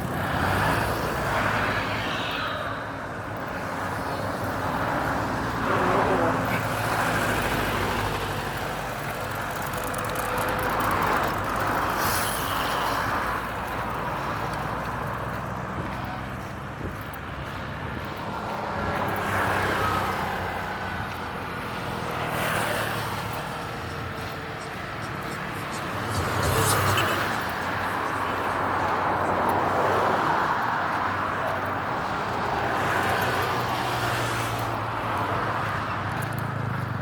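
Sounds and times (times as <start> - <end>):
road traffic rumble: 0.0 - 37.0
vehicles passing by: 0.0 - 37.0.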